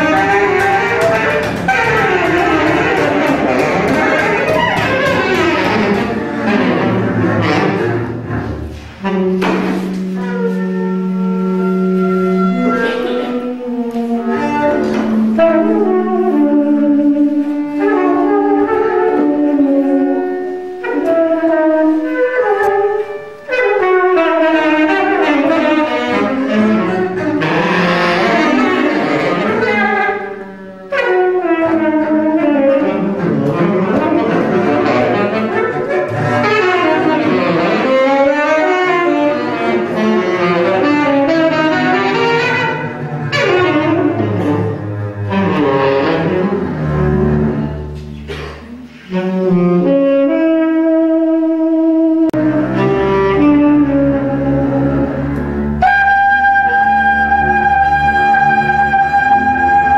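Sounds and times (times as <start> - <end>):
instrumental music with sliding notes: 0.0 - 59.9.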